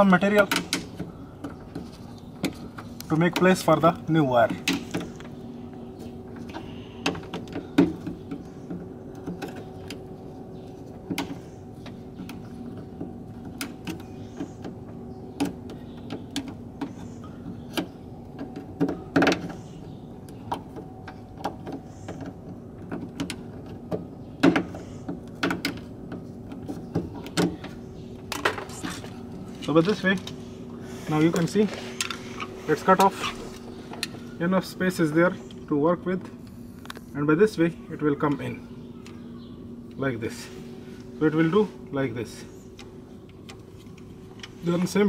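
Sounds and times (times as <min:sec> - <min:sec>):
steady background hum: 0:00.0 - 0:45.0.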